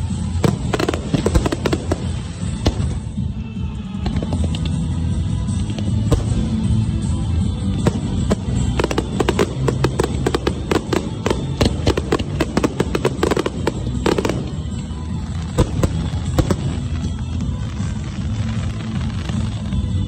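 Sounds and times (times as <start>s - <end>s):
aerial fireworks bursting: 0.0s - 20.0s.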